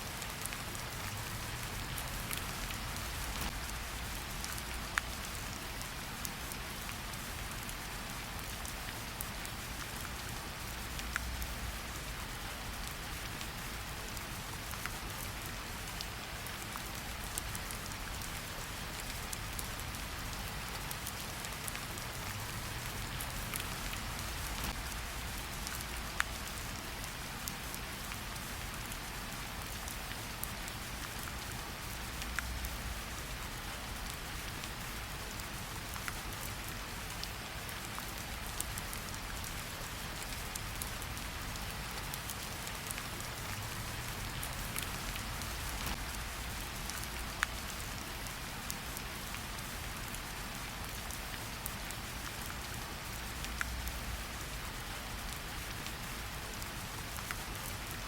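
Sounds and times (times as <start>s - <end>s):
steady rain hiss: 0.0s - 58.0s
rain drop ticks: 0.2s - 5.6s, 8.4s - 11.6s, 14.2s - 51.2s, 51.9s - 54.6s.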